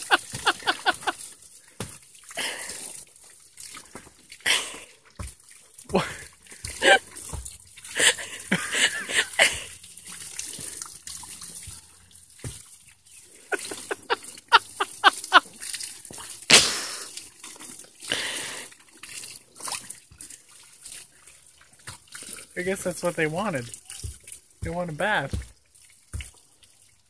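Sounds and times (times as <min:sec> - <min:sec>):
hose water spraying and splashing: 0:00.0 - 0:27.0.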